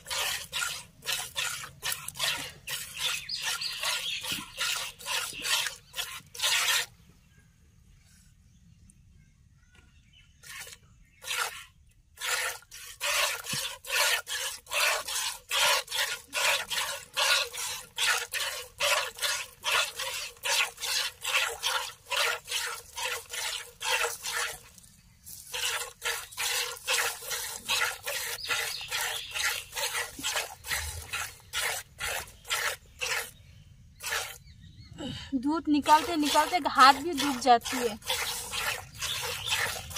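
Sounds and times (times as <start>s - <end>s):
milk squirting into plastic bucket: 0.0s - 6.9s, 10.4s - 33.4s, 34.0s - 34.4s, 35.7s - 39.9s.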